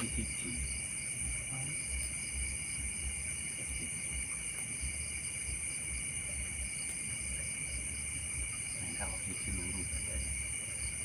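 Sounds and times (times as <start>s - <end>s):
crickets shrilling: 0.0s - 11.0s.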